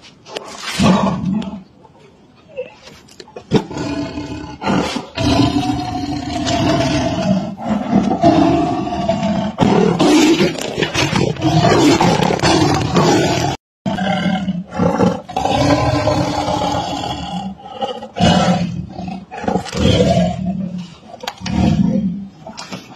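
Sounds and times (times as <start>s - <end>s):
tiger roaring: 3.5s - 22.4s.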